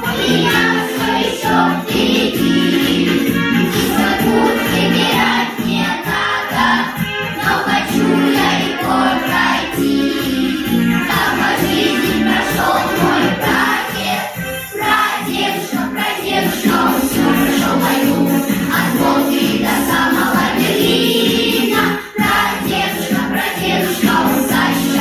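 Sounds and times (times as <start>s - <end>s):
children's choir singing: 0.0s - 25.0s
musical accompaniment: 0.0s - 25.0s.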